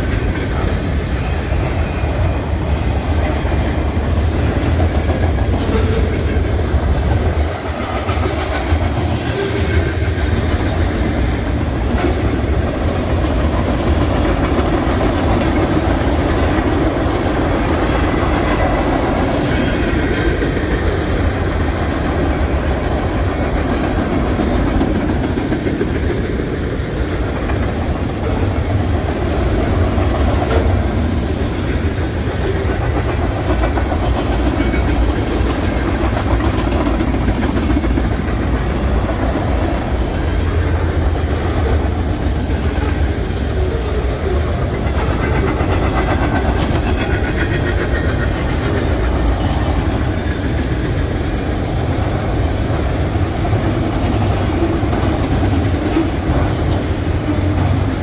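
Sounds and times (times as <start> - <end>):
clickety-clack from rails: 0.0 - 58.0
freight cars rolling on rails: 0.0 - 58.0.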